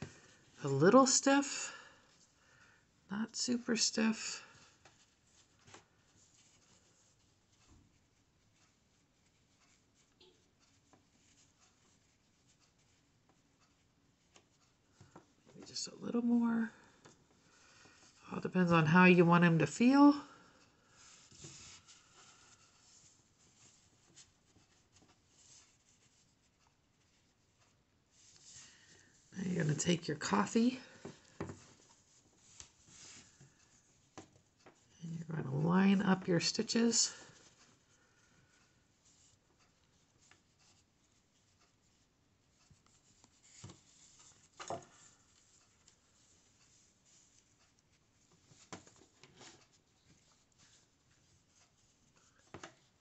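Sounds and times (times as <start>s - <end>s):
faint rustles of handling yarn: 0.0s - 53.0s.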